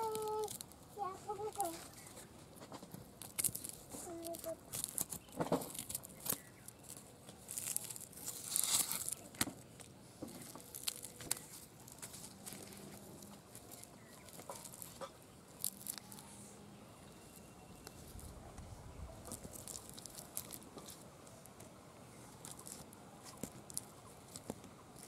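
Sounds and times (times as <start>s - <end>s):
charred skin crackling and tearing: 0.0s - 16.4s, 19.2s - 21.6s, 22.3s - 25.0s.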